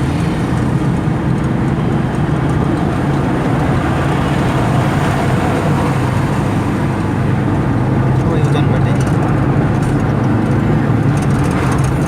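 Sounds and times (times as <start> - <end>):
car engine hum: 0.0 - 12.0
road and tyre noise: 0.0 - 12.0.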